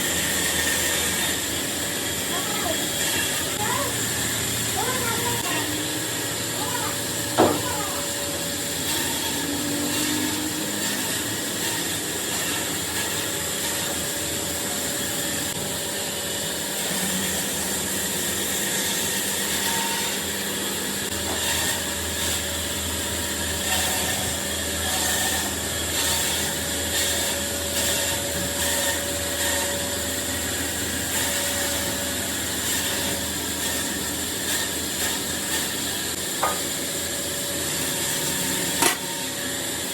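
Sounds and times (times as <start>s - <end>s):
woodworking machinery hissing: 0.0s - 39.9s.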